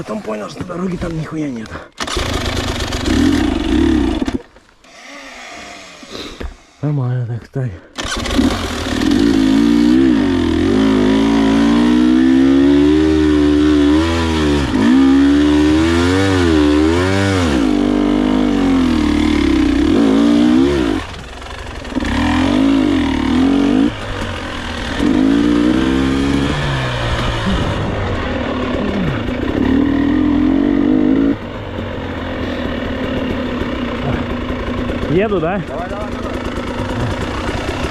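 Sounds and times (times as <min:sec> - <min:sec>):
motorcycle engine revving: 0:02.0 - 0:04.5, 0:08.0 - 0:37.9.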